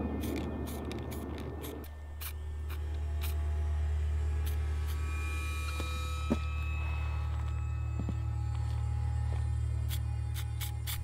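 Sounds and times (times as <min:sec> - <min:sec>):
background music with low drone: 0:00.0 - 0:11.0.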